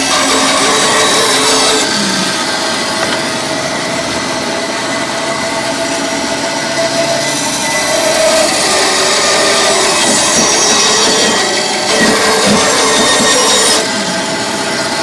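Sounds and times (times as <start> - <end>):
bandsaw running: 0.0 - 15.0.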